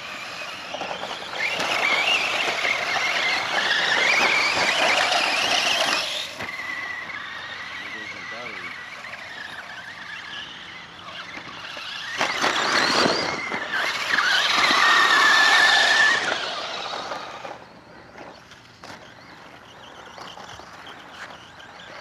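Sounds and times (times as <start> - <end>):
rc truck motor and gear whine: 0.0 - 22.0.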